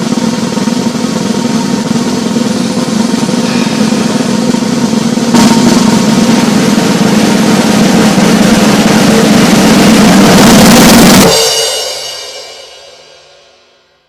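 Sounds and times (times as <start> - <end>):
snare drum roll: 0.0 - 13.2
cymbal crash ringing: 0.0 - 14.0.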